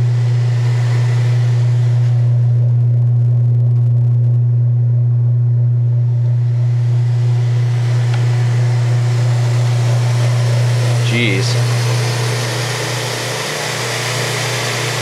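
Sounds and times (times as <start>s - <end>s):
washing machine drain pump humming: 0.0s - 15.0s.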